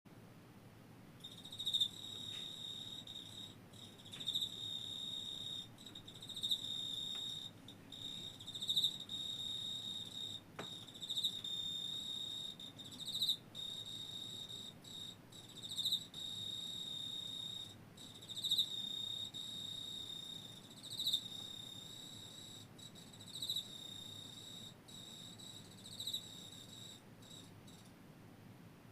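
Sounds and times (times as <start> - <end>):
field cricket trilling: 1.2 - 27.8.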